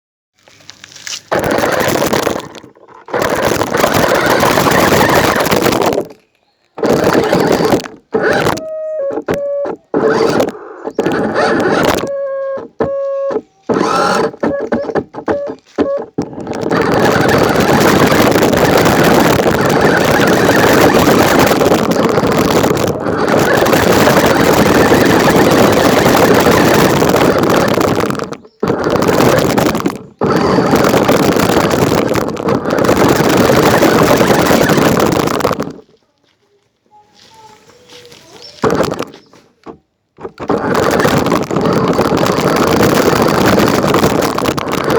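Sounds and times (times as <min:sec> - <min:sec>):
small electric motor whining: 0:00.8 - 0:06.2, 0:06.8 - 0:35.9, 0:37.9 - 0:39.3, 0:40.2 - 0:44.9.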